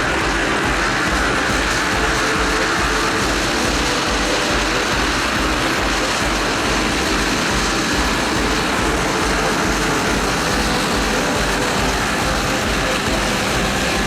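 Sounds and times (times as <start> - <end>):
helicopter rotor throb: 0.0 - 14.0.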